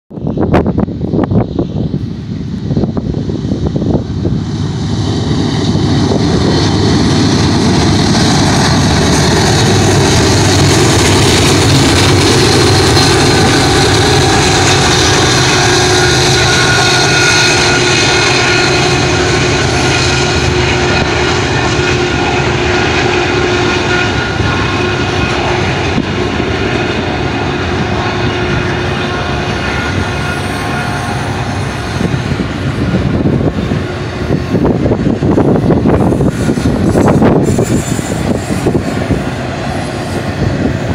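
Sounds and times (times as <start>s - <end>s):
diesel locomotives passing: 0.2s - 40.9s.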